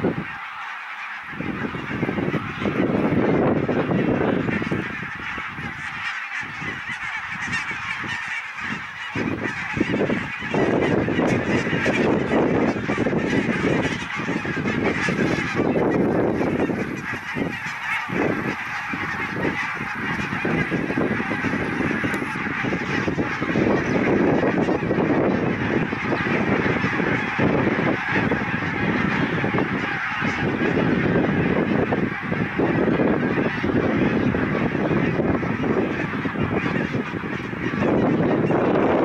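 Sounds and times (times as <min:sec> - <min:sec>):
geese honking: 0:00.0 - 0:39.0.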